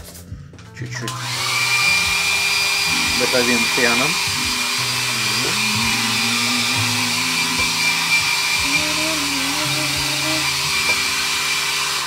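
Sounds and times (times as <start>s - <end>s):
hair dryer running: 1.1s - 12.0s.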